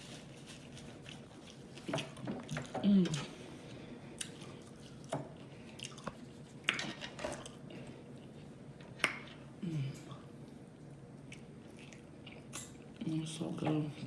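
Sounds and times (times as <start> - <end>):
person chewing food: 0.5 - 9.5, 10.2 - 12.6.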